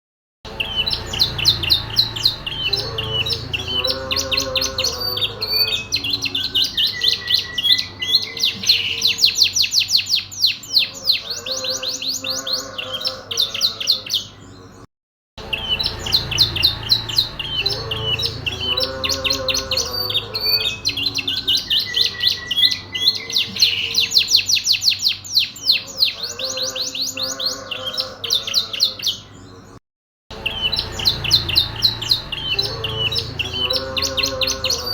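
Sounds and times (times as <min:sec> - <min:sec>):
canary singing trills: 0:00.5 - 0:14.8, 0:15.4 - 0:34.9.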